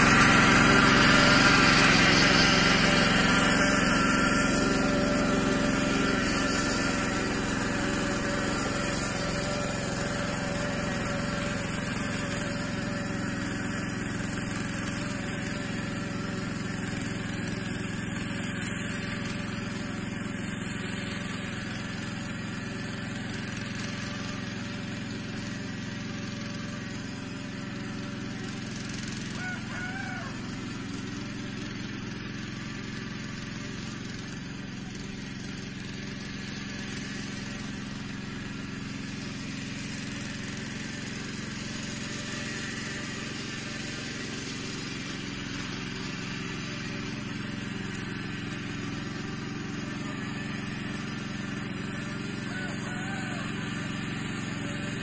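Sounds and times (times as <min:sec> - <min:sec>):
walking tractor engine running: 0:00.0 - 0:55.0.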